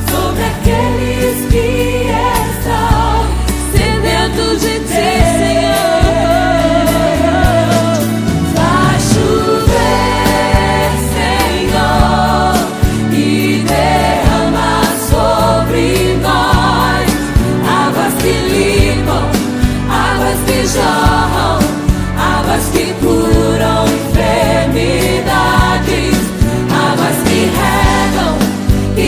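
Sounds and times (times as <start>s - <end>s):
band with drum beat and bass: 0.0s - 29.0s
voices singing: 0.0s - 29.0s.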